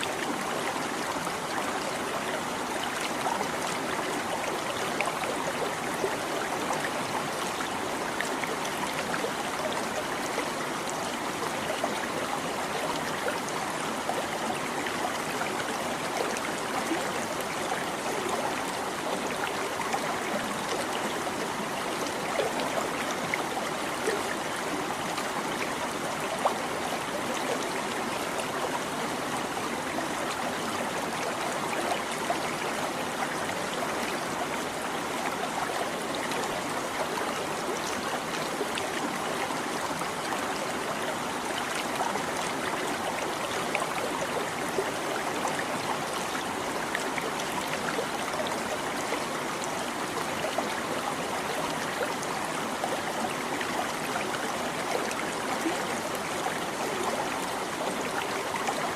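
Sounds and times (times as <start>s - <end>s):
stream babbling: 0.0s - 58.9s.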